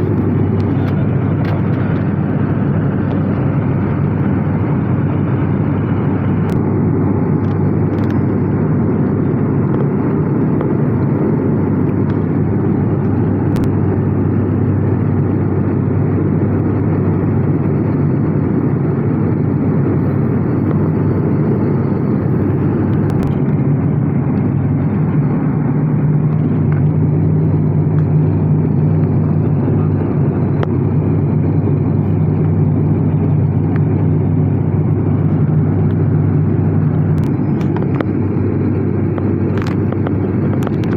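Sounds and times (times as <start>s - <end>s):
turboprop engines droning in cabin: 0.0s - 40.9s.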